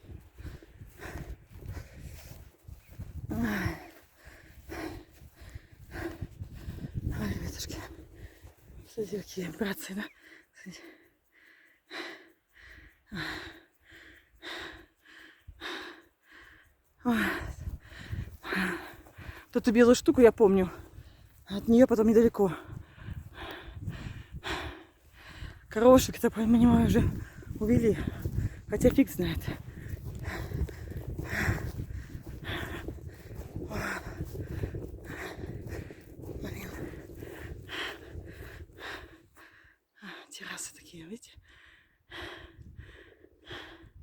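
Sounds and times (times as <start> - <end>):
wind rumble: 0.0 - 9.1, 12.5 - 19.7, 20.3 - 39.6, 42.1 - 44.0
person breathing hard: 0.0 - 44.0.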